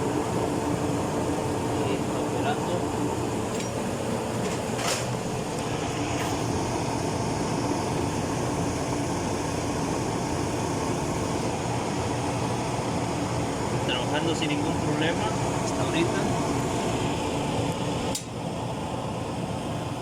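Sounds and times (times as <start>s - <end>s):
dryer motor humming and whirring: 0.0s - 20.0s.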